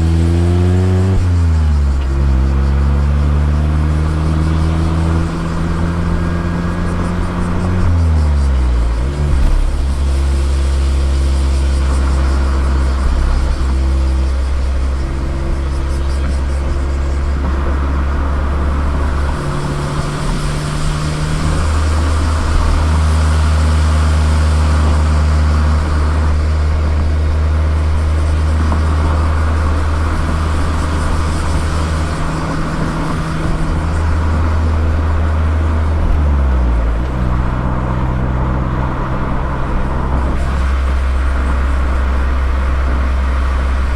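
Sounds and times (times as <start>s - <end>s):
car engine and exhaust: 0.0s - 43.9s
tyre and road noise: 0.0s - 43.9s.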